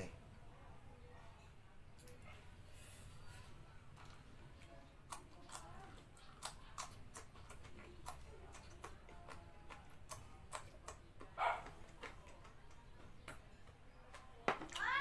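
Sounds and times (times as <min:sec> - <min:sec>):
mouth chewing: 0:02.0 - 0:14.8.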